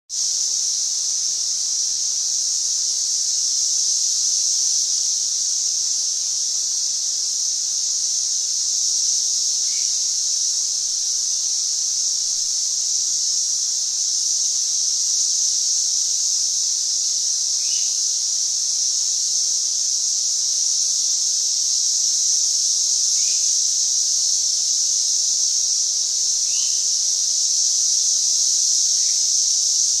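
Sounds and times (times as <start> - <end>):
cicadas droning: 0.1 - 30.0.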